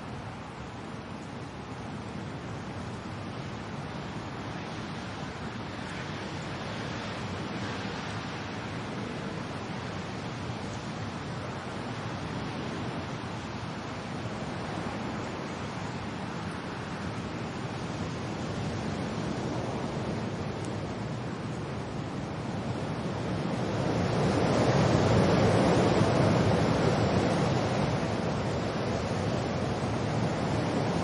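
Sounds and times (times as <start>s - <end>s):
rain: 0.0s - 31.0s
wind: 0.0s - 31.0s.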